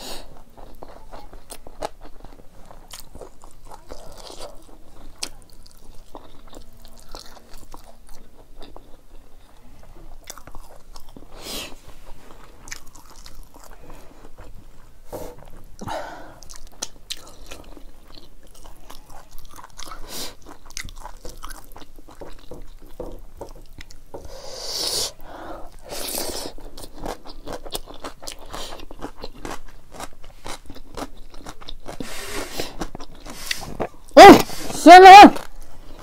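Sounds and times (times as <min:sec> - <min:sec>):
chewing and crunching: 0:00.2 - 0:24.1, 0:25.7 - 0:34.2.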